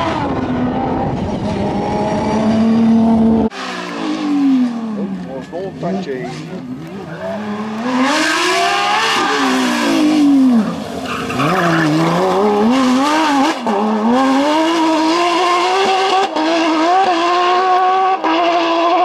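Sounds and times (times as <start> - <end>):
racing car engine at high revs: 0.0 - 19.0.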